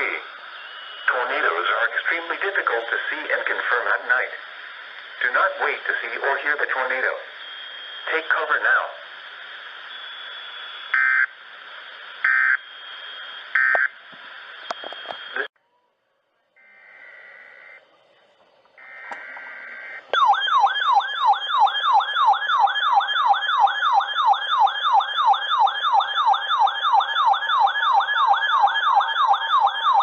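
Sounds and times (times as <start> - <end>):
radio alert siren: 0.0 - 15.5, 16.6 - 18.0, 18.8 - 30.0.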